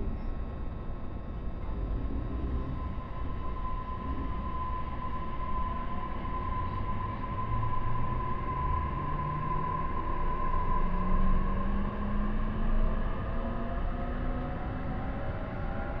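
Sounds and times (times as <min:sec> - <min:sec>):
high-pitched motor whine: 0:00.0 - 0:16.0.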